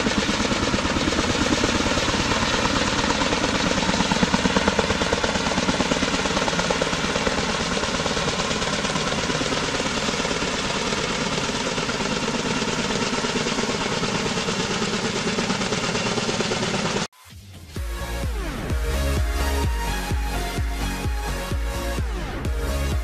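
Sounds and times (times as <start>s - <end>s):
helicopter rotors beating: 0.0s - 17.1s, 17.8s - 23.0s.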